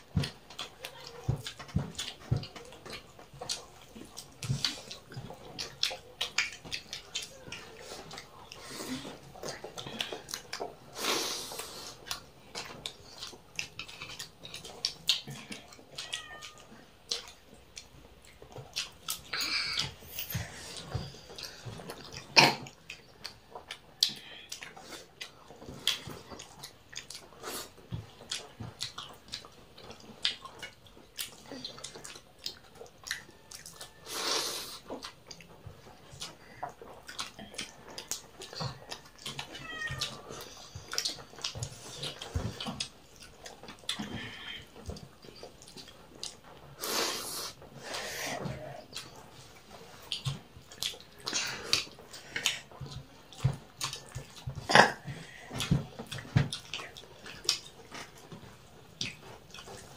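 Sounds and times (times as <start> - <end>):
chewing and lip-smacking: 0.0 - 59.9.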